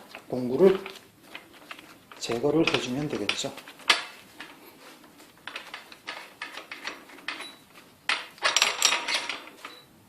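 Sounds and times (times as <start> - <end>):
small metal clicks and rattles: 0.0 - 4.6, 5.4 - 9.8.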